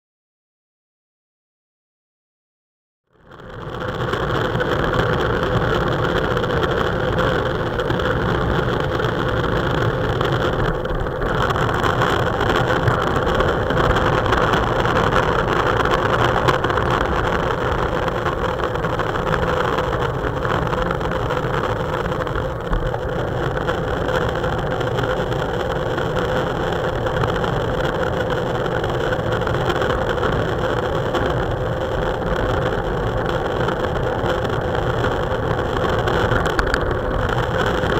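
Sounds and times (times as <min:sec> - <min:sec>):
tyres rumbling on asphalt: 0:03.3 - 0:37.9
wind buffeting camera: 0:03.3 - 0:37.9.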